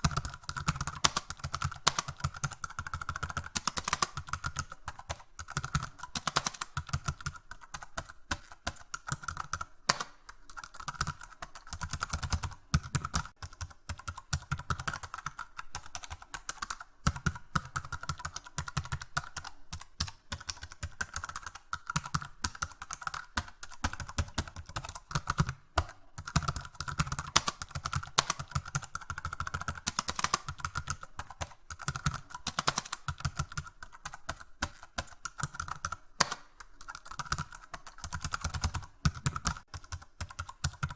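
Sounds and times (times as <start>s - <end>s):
keyboard typing clicks: 0.0s - 40.9s.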